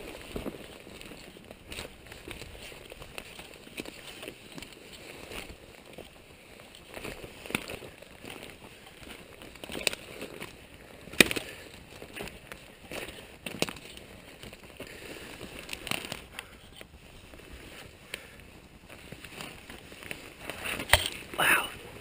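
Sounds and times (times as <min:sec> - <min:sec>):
footsteps through brush: 0:00.0 - 0:22.0
twigs snapping: 0:00.2 - 0:17.0, 0:18.0 - 0:21.4.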